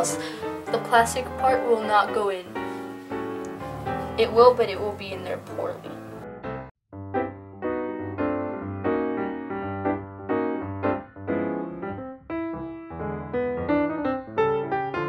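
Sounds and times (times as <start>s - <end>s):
piano music over bass line: 0.0s - 15.0s.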